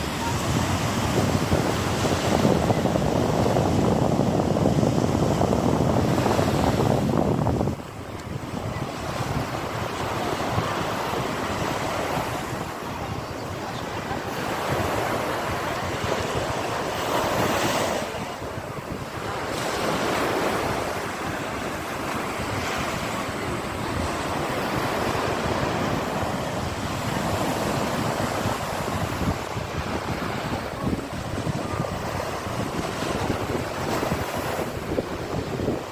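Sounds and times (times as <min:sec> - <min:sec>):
sea waves washing on shore: 0:00.0 - 0:35.9
wind buffeting microphone: 0:00.0 - 0:35.9.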